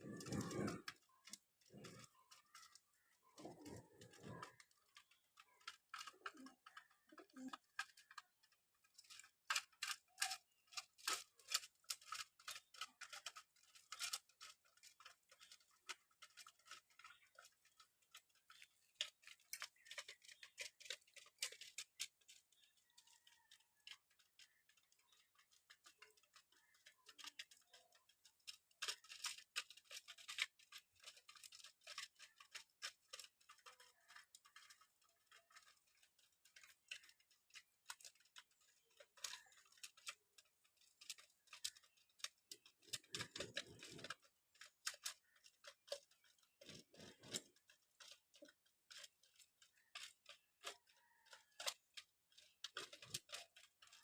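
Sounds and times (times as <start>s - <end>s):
pigeons pecking on hard surface: 0.0s - 54.0s.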